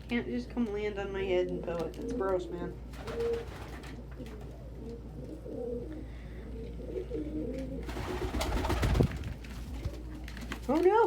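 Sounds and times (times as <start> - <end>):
pigeons cooing: 1.6 - 10.5.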